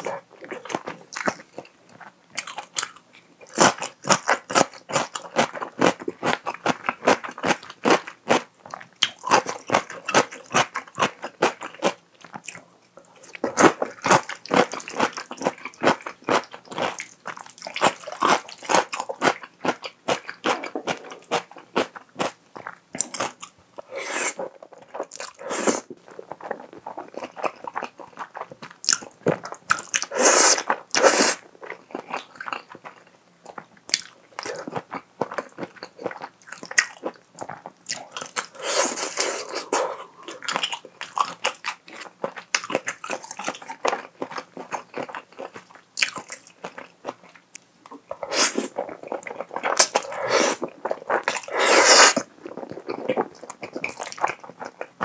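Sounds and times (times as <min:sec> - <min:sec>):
chewing and slurping noodles: 0:00.0 - 0:55.0.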